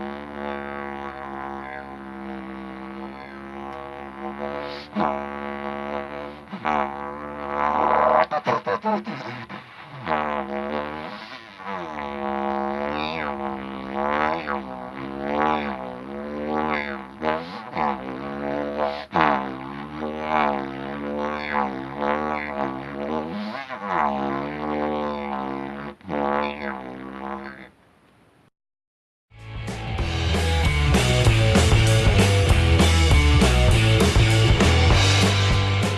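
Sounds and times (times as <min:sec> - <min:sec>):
didgeridoo drone: 0:00.0 - 0:27.7, 0:29.4 - 0:35.9.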